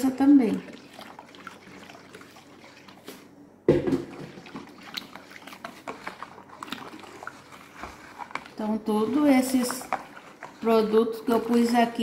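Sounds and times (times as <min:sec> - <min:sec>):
soapy water swishing: 0:00.0 - 0:12.0.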